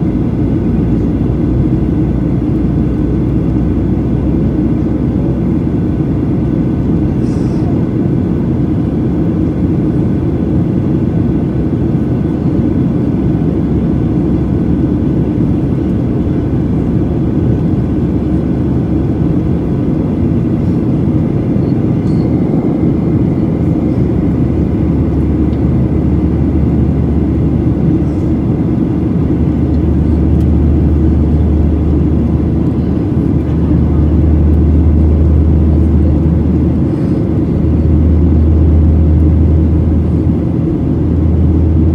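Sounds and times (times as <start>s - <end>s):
airplane cabin engine rush: 0.0s - 41.9s
deep hum: 8.2s - 41.9s.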